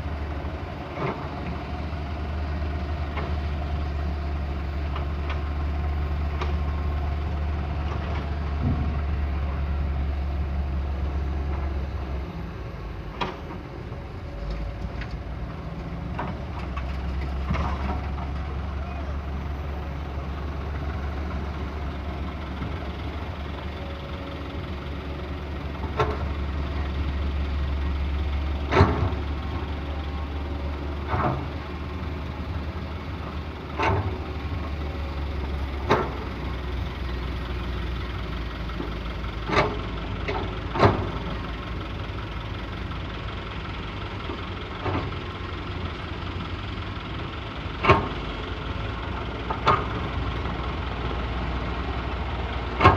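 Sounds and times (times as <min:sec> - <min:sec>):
excavator diesel engine humming: 0:00.0 - 0:52.9.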